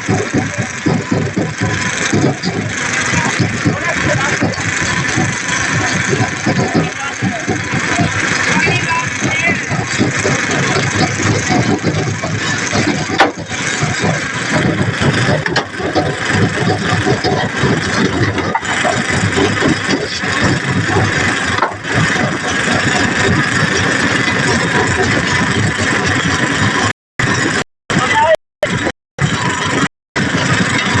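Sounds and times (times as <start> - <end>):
engine running loudly: 0.0 - 31.0.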